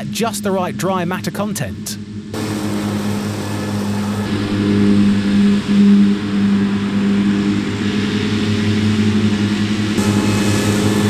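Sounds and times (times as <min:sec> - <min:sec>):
diesel engine running under load: 0:02.0 - 0:11.0.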